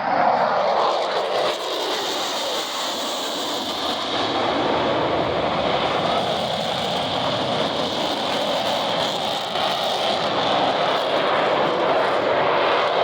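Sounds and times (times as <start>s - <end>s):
fighter jet engine roaring: 0.0s - 13.0s.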